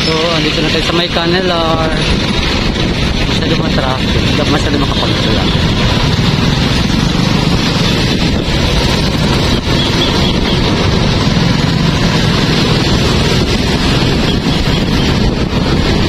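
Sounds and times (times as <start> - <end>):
motorcycle engine running: 0.0 - 16.0
road noise: 0.0 - 16.0
wind on microphone: 0.0 - 16.0.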